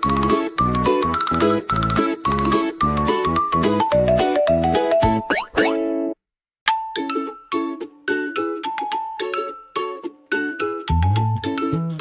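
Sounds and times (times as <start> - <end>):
upbeat background music: 0.0 - 6.1, 8.2 - 12.0.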